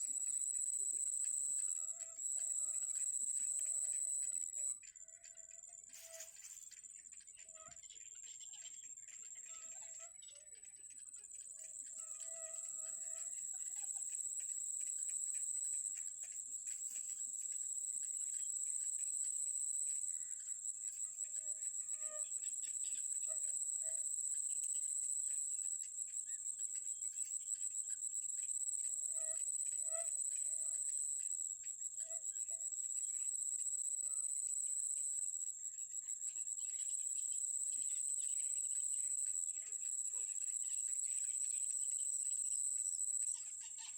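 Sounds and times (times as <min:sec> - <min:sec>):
insects droning: 0:00.0 - 0:10.3, 0:10.9 - 0:43.9.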